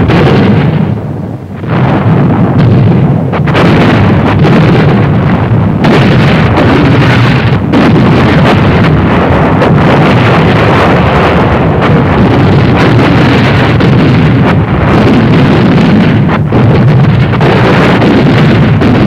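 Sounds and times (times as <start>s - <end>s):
artillery shell bursts rumbling: 0.0s - 19.0s.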